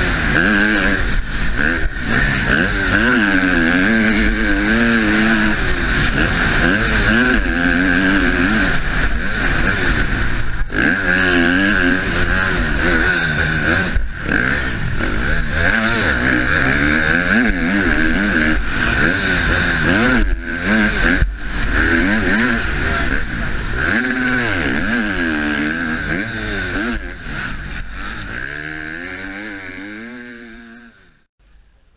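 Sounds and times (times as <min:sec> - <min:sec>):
motocross bike engine revving: 0:00.0 - 0:31.3.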